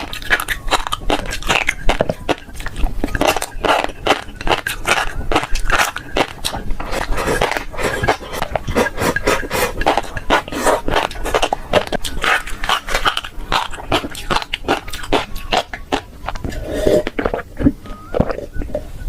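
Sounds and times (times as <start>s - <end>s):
chewing with wet pops: 0.0s - 18.8s.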